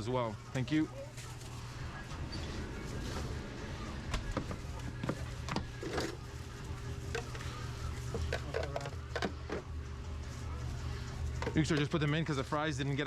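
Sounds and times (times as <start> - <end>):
kitchen low hum: 0.0 - 13.0.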